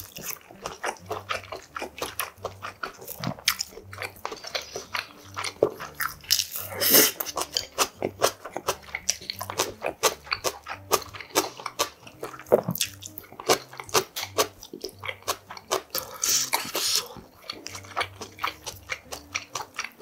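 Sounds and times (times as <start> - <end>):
wet chewing and lip smacking: 0.0 - 20.0.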